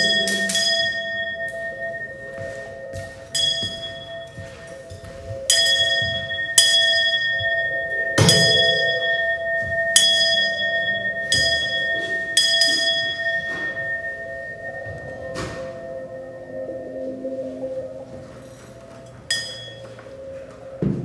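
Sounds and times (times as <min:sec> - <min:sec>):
steady two-note drone: 0:00.0 - 0:21.0.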